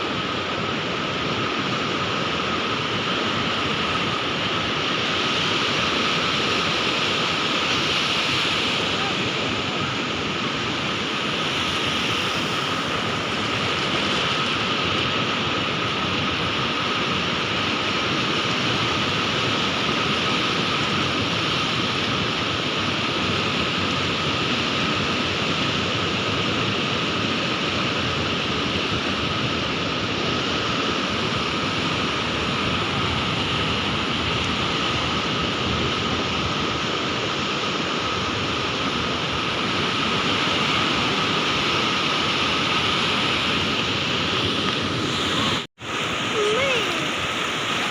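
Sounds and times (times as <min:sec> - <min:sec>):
sea surf rushing: 0:00.0 - 0:47.9.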